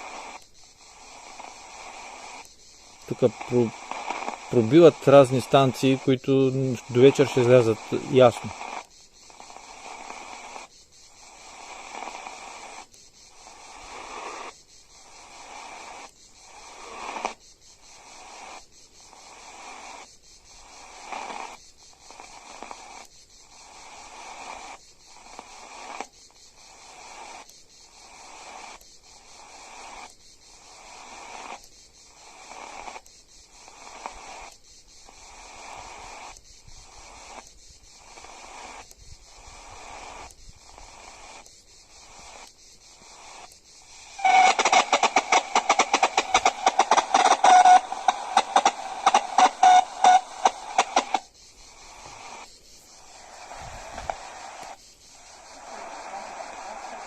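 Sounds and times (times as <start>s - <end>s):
radio static hiss pulsing: 0.0s - 57.0s.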